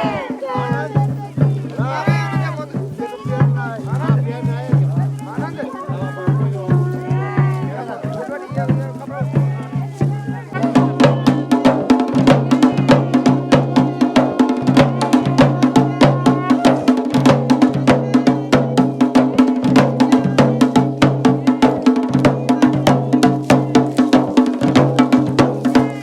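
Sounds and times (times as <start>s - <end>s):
fast steady drumming: 0.0s - 26.0s.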